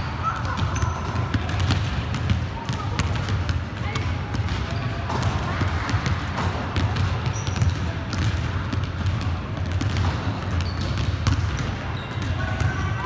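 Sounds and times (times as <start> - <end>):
basketballs bouncing on wooden floor: 0.0 - 13.0.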